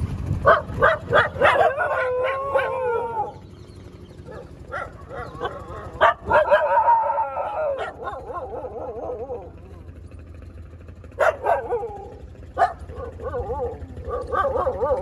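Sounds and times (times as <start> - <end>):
dogs barking: 0.4 - 15.0
dog howling: 0.5 - 3.6, 4.2 - 10.0, 11.2 - 15.0.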